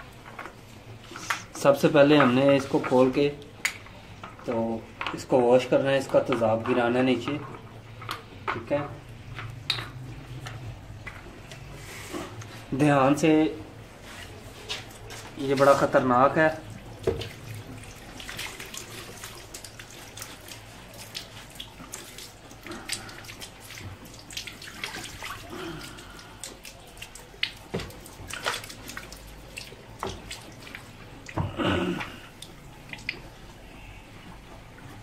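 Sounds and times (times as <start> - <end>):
liquid draining and splashing: 0.0 - 35.0.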